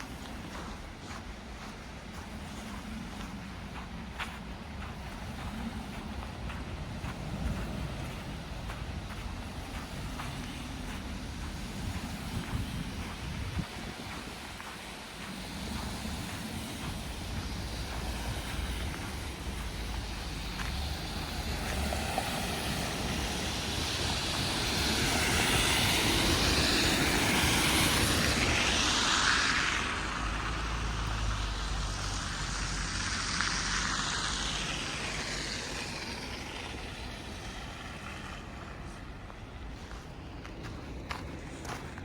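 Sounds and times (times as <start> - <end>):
motor vehicle passing: 2.6 - 39.1.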